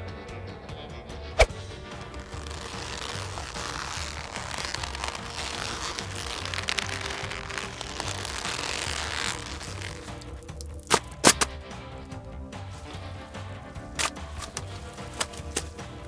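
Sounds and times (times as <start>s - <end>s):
dense crackling noise: 0.0s - 16.0s
music with low beat: 0.0s - 16.0s.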